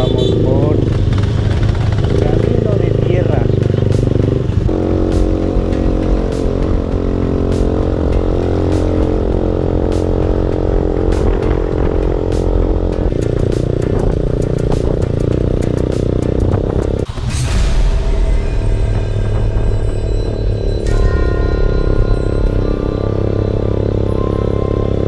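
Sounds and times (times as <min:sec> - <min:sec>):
motorcycle engine running: 0:00.0 - 0:17.2, 0:18.1 - 0:25.0.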